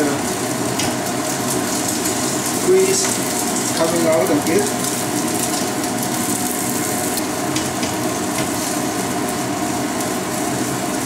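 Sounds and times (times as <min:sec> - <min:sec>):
pork sizzling in oil: 0:00.0 - 0:11.0.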